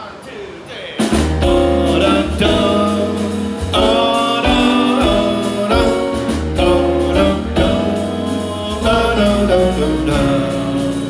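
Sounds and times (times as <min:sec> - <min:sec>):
big band playing held chords: 0:00.0 - 0:11.0.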